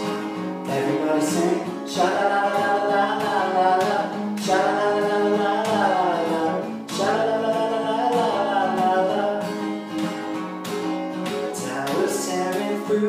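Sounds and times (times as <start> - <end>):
man singing: 0.0 - 9.7, 11.6 - 13.0
strummed acoustic guitar: 0.0 - 13.0.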